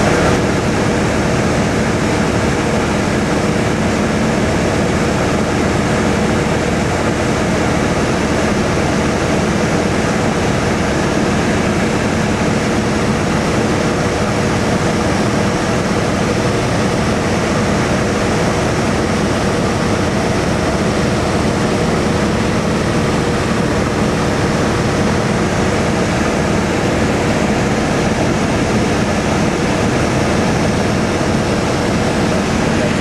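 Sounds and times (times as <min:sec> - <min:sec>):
airflow noise: 0:00.0 - 0:33.0
propeller plane engine droning: 0:00.0 - 0:33.0.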